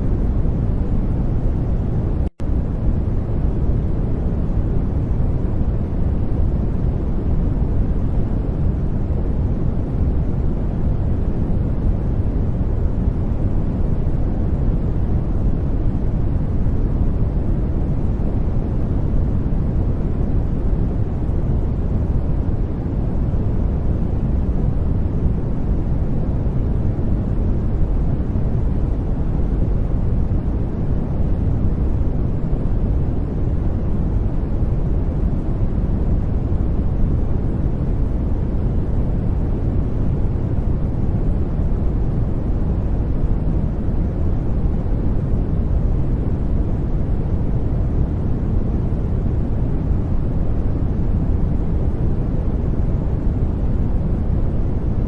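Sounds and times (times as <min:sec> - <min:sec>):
deep white noise hiss: 0:00.0 - 0:55.0.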